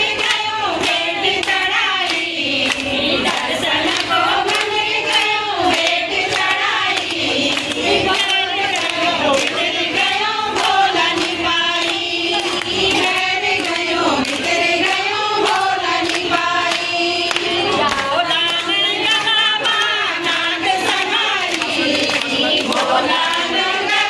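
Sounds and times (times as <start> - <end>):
hand claps: 0.0 - 24.0
women singing in unison: 0.0 - 24.0.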